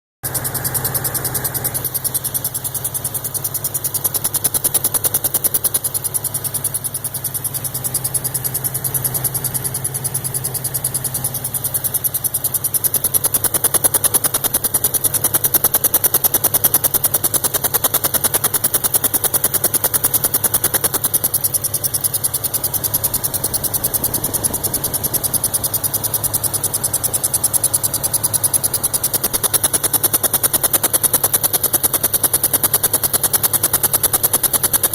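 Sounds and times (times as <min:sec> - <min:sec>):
car engine running: 0:00.2 - 0:34.9
fast repeating chirp: 0:00.2 - 0:34.9.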